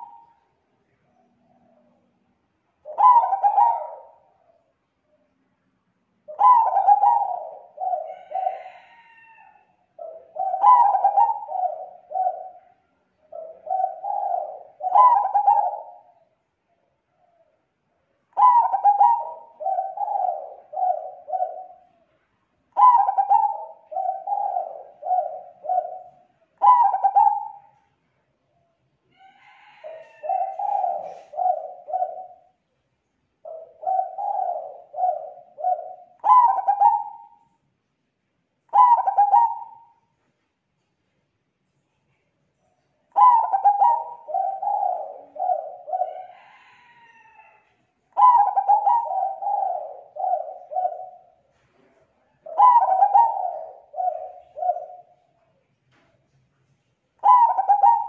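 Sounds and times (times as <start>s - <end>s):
dove cooing song: 0.0s - 5.4s, 6.2s - 17.7s, 18.3s - 27.9s, 29.2s - 32.6s, 33.4s - 37.6s, 38.7s - 40.2s, 42.8s - 55.6s, 57.2s - 58.0s.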